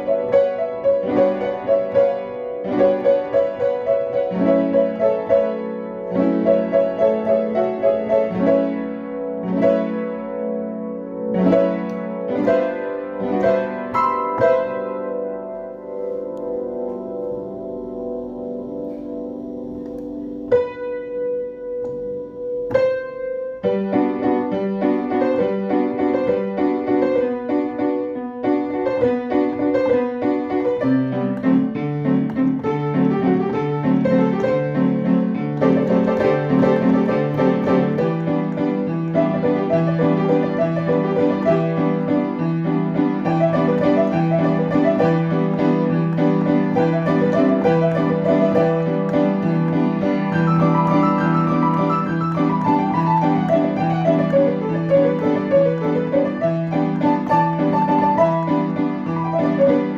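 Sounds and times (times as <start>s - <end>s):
piano-like keyboard music: 0.0s - 59.9s.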